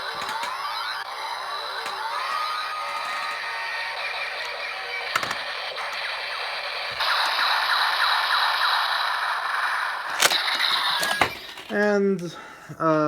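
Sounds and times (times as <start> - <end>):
toy electronic sound effects: 0.0 - 11.9.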